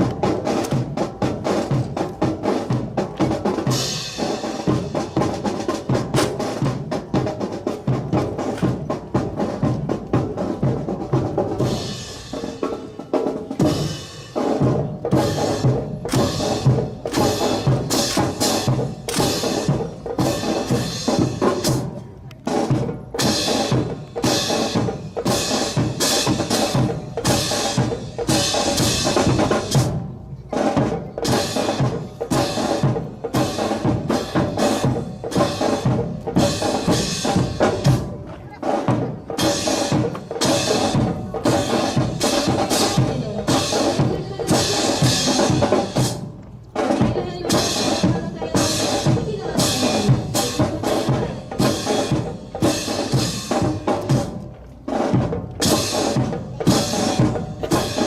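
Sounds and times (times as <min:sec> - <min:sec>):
percussion-heavy music: 0:00.0 - 0:58.0.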